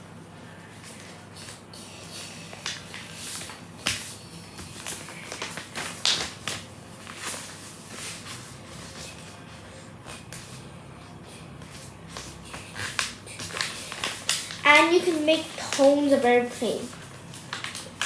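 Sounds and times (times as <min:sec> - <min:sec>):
paper rustling and crackling: 0:00.8 - 0:10.6, 0:11.6 - 0:18.0.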